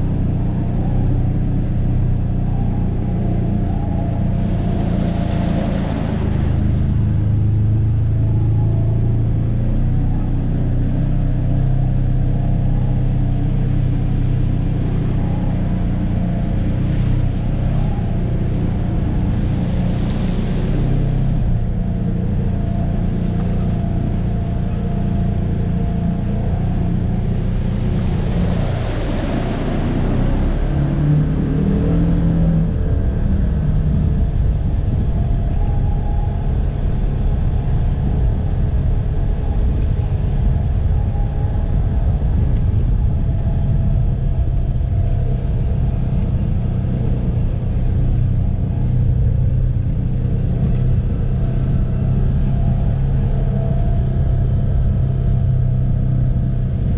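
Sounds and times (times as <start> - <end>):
engine running steadily: 0.0 - 56.9
rush of noise: 0.0 - 56.9.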